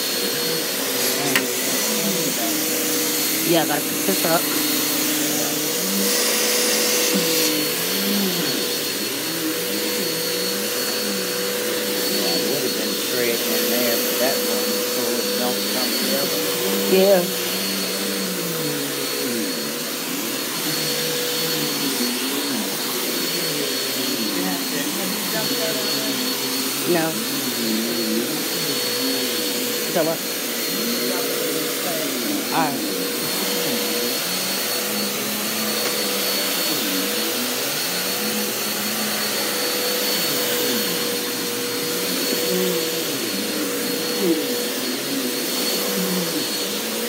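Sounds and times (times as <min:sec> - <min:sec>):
vacuum cleaner running on carpet: 0:00.0 - 0:47.0.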